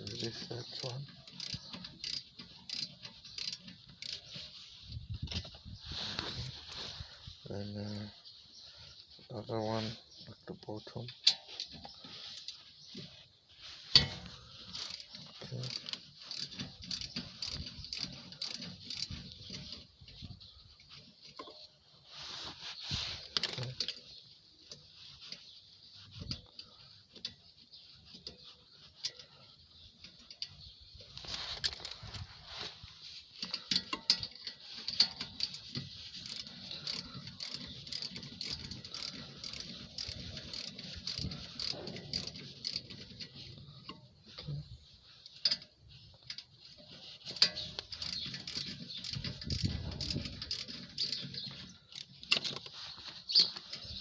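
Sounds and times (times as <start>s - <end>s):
metal parts clicking and scraping: 0.0s - 6.8s, 13.8s - 21.7s, 23.1s - 54.0s.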